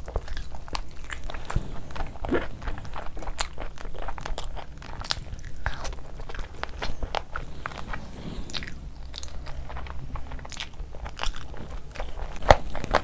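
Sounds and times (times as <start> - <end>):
chewing and mouth smacks: 0.0 - 13.0.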